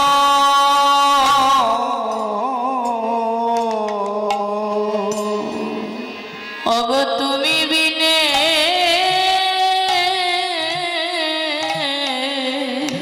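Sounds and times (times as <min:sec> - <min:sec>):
harmonium: 0:00.0 - 0:13.0
woman singing with vibrato: 0:00.0 - 0:13.0.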